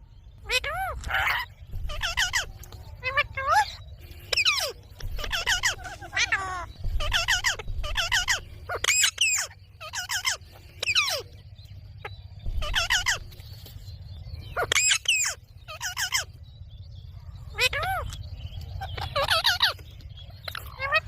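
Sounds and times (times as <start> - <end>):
steady low rumble: 0.0 - 21.0
baby parakeet calling: 0.4 - 13.4, 14.4 - 16.4, 17.1 - 21.0.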